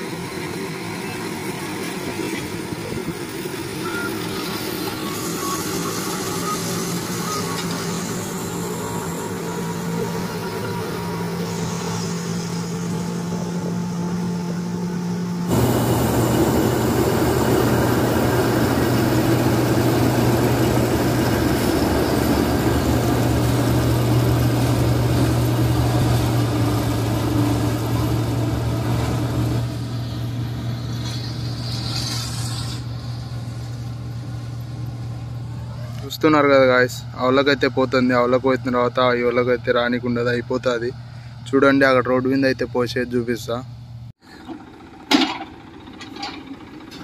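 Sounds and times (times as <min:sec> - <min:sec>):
rushing machinery noise: 0:00.0 - 0:40.7, 0:44.3 - 0:47.0
combine harvester engine hum: 0:00.0 - 0:47.0.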